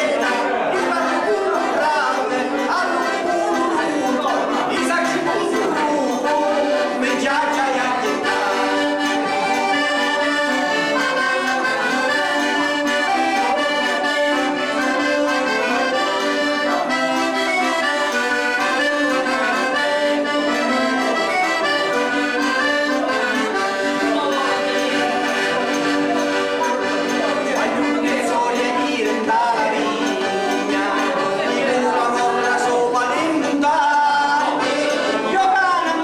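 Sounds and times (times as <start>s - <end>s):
accordion folk tune: 0.0s - 36.0s.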